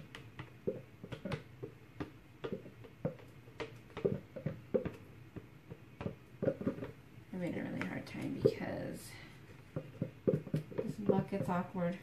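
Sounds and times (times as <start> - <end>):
plastic containers tapping and clicking: 0.0 - 12.0.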